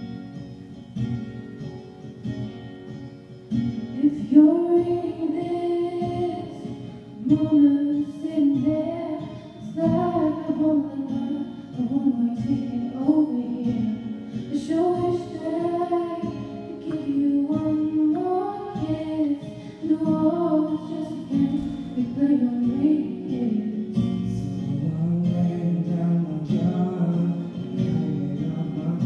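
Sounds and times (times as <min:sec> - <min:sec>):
acoustic guitar playing: 0:00.0 - 0:29.0
woman singing: 0:03.9 - 0:29.0.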